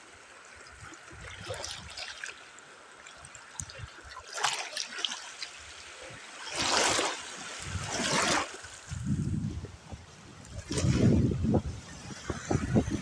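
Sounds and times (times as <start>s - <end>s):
waves splashing on shore: 0.0s - 13.0s
wind: 0.0s - 13.0s.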